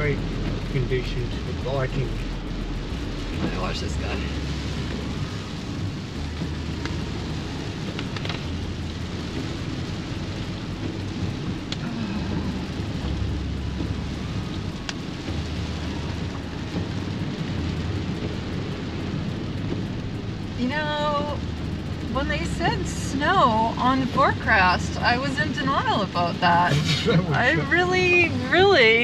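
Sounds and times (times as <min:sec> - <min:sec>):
tyres on wet slushy road: 0:00.0 - 0:29.0.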